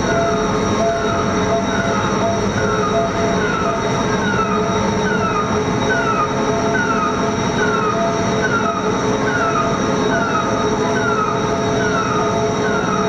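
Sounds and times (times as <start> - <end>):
electronic warning chirp: 0.0 - 13.0
lifting machinery humming and whining: 0.0 - 13.0.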